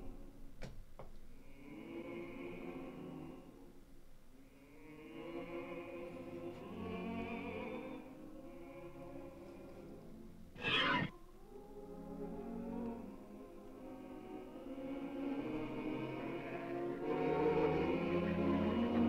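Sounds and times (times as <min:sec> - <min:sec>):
choir singing with orchestra: 0:01.4 - 0:03.8, 0:04.5 - 0:19.0.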